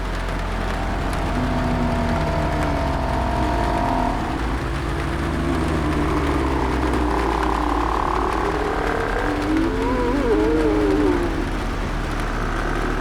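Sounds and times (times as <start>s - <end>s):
drawn-out moans: 0.0s - 13.0s
low rumble and hiss: 0.0s - 13.0s.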